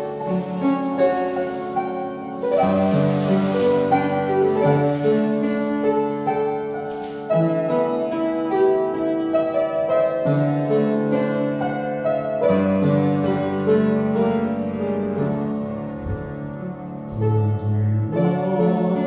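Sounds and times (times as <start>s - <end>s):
slow piano song: 0.0s - 19.0s.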